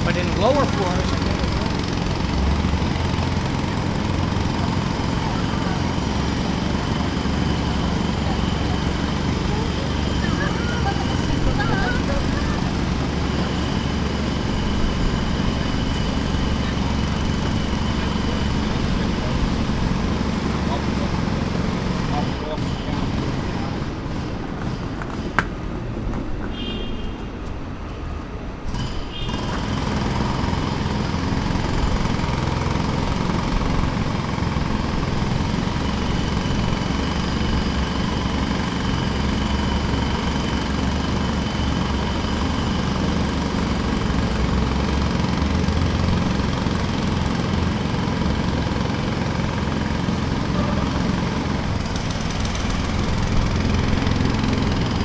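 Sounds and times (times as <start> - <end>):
jackhammer hammering: 0.0 - 25.7, 28.7 - 55.0.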